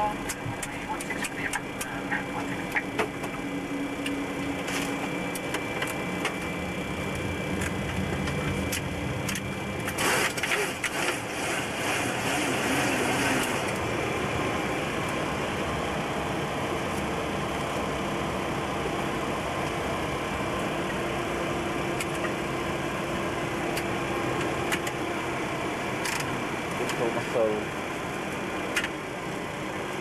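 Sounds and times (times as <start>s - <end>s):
cockpit air conditioning rush: 0.0s - 30.0s
jet engines running at low power: 0.0s - 30.0s.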